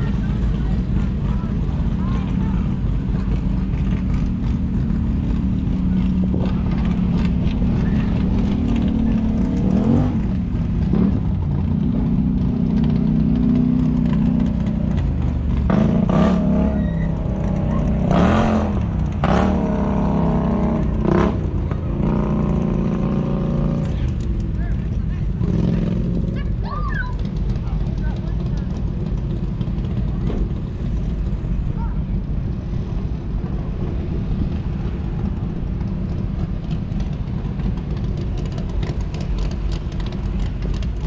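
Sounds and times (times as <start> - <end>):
race car engine idling and revving: 0.0 - 41.0.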